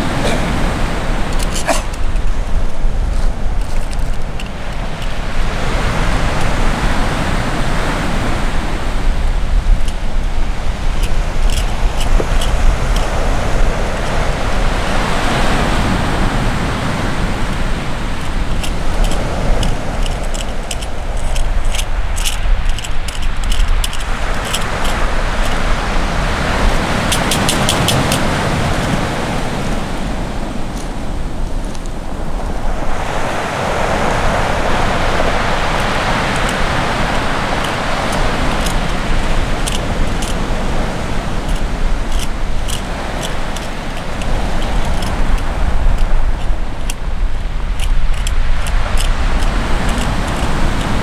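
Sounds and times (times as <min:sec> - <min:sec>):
ocean surf breaking: 0:00.0 - 0:51.0.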